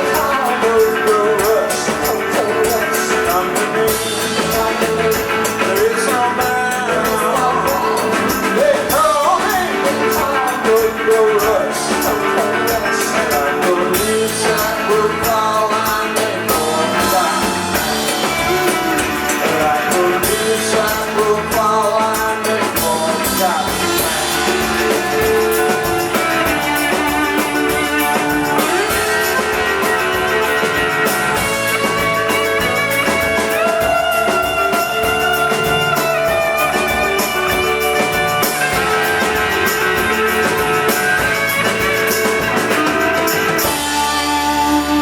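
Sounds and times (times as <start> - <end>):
drum kit beat: 0.0 - 45.0
electric guitars: 0.0 - 45.0.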